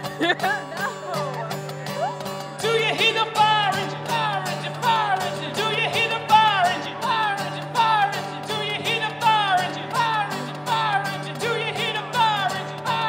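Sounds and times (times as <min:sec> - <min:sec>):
acoustic guitars strummed: 0:00.0 - 0:13.0
people singing through a pa: 0:02.0 - 0:13.0.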